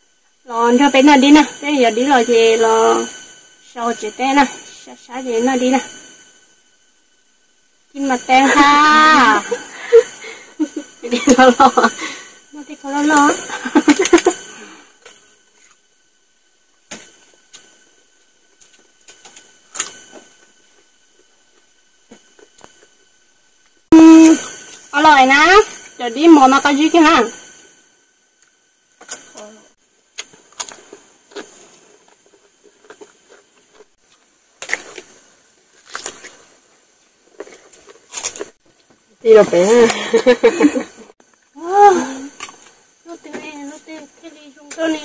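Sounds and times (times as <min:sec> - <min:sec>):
faint steady high whine: 0:00.0 - 0:45.0.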